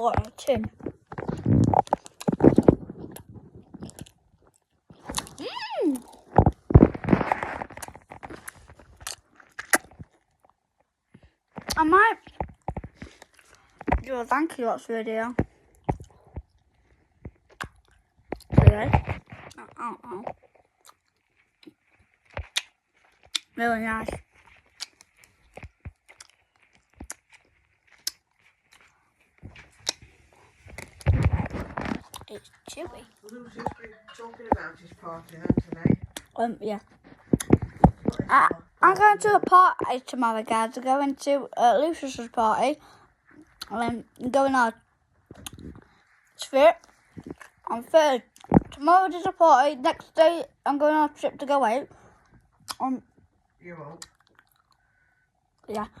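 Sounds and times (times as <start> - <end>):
sweets being crunched and chewed: 0.0 - 14.5, 15.3 - 51.2, 51.9 - 56.0.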